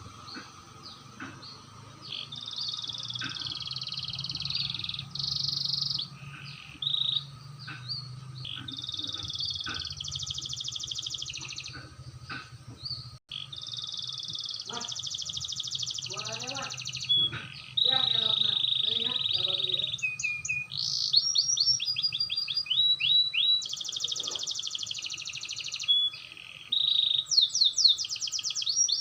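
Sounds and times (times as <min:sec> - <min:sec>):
canary singing trills: 0:00.0 - 0:29.0.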